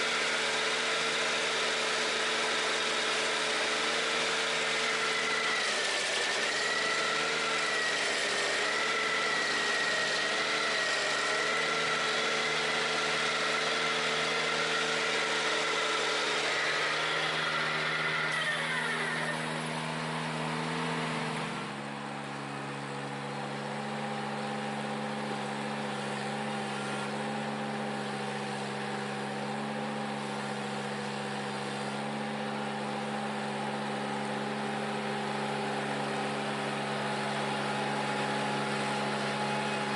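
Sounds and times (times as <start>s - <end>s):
stump grinder high whine: 0.0s - 39.9s
tractor engine running: 0.0s - 39.9s.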